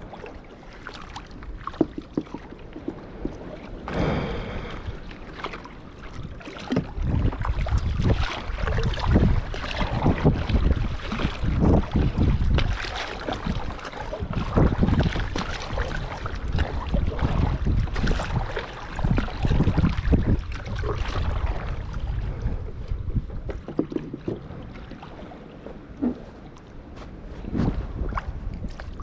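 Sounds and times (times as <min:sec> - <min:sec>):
water splashing around kayak: 0:00.0 - 0:29.0
wind rumbling on microphone: 0:00.0 - 0:29.0.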